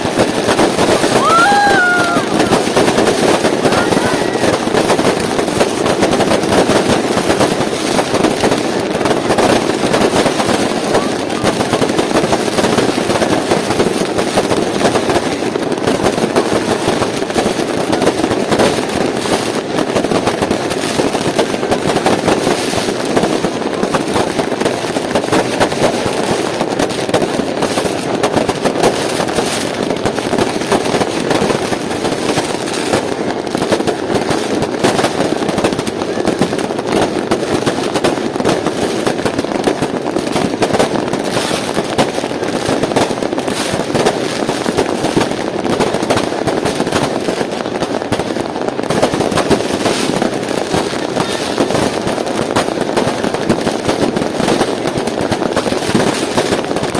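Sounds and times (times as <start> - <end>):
fireworks and firecrackers barrage: 0.0 - 56.9.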